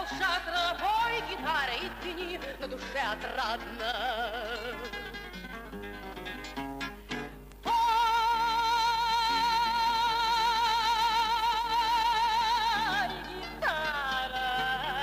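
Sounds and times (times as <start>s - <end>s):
guitar plucked notes: 0.0s - 15.0s.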